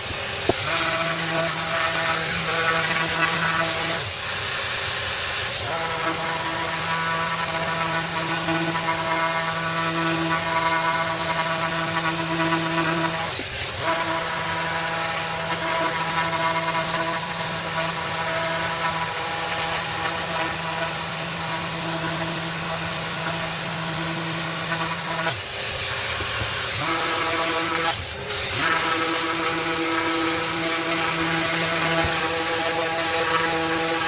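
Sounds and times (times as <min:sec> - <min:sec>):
orbital sander on wood: 0:00.0 - 0:34.0.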